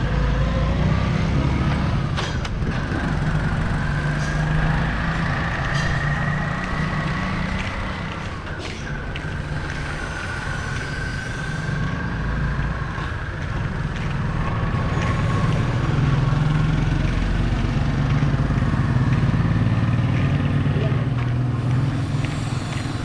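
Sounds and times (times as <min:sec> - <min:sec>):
vehicle engines running: 0:00.0 - 0:23.0.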